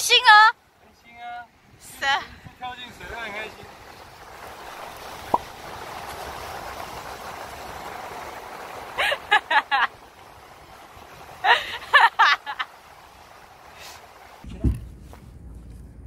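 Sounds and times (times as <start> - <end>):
sea surf on beach: 0.0 - 14.5.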